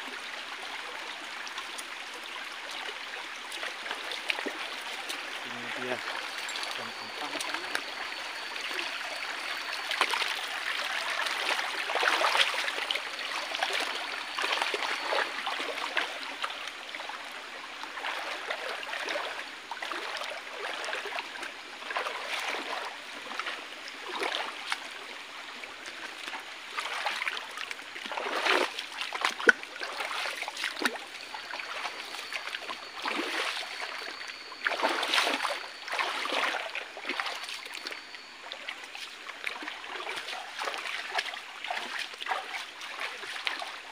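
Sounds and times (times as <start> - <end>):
stream trickling over rocks: 0.0 - 43.9
feet splashing through water: 0.9 - 17.2, 17.8 - 25.2, 25.8 - 43.9.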